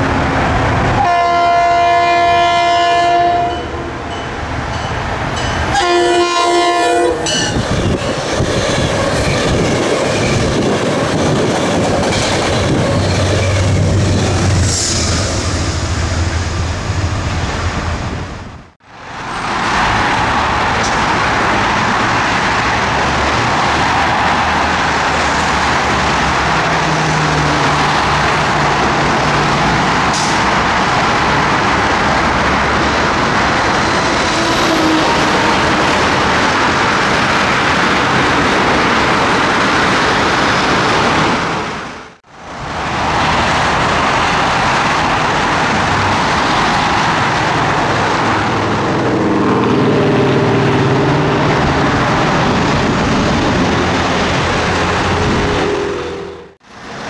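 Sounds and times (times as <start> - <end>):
passing vehicles rushing: 0.0 - 57.0.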